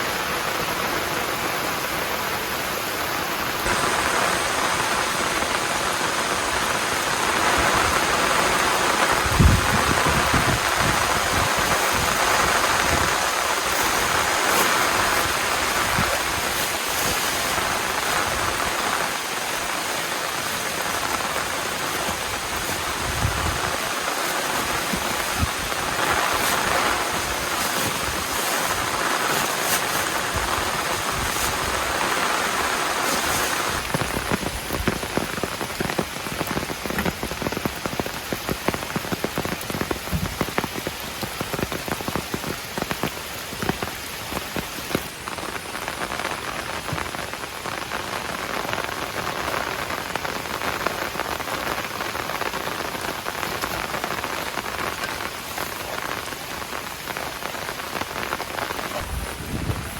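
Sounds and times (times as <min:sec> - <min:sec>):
heavy rain rushing: 0:00.0 - 0:59.9
raindrops striking a surface: 0:00.0 - 0:59.9.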